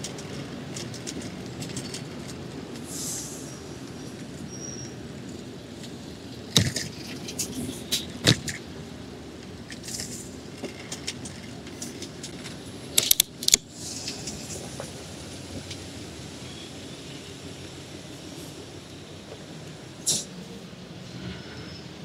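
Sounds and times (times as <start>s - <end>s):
bicycle rattling over paving: 0.0s - 2.9s, 3.5s - 20.0s
city traffic hum: 0.0s - 22.0s.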